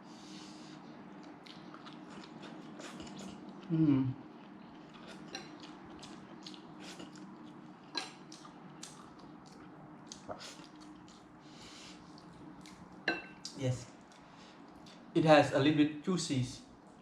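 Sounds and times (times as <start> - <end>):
person chewing: 1.0 - 15.1.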